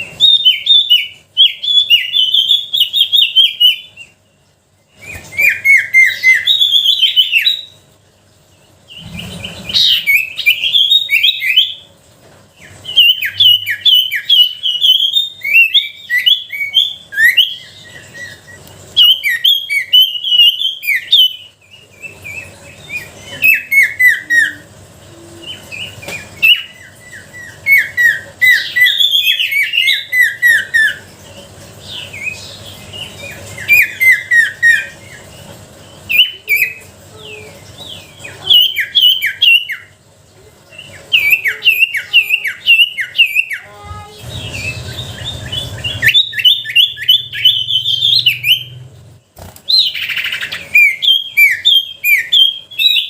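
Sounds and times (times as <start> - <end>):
bird singing chirping phrases: 0.0 - 11.9, 12.5 - 53.0.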